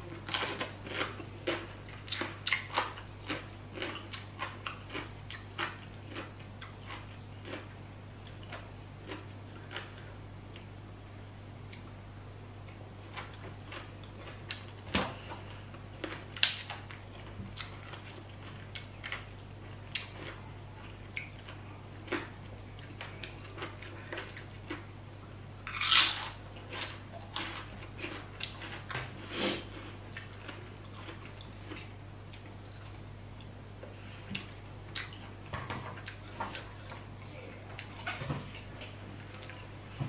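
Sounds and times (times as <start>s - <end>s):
person chewing crunchy food: 0.0s - 10.8s, 12.6s - 39.8s
low steady hum: 0.0s - 40.0s.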